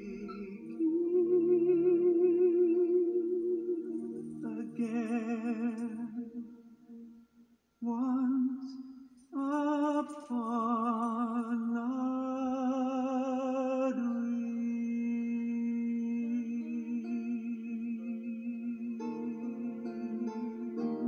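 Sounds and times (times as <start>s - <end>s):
person singing wordless notes: 0.0s - 21.0s.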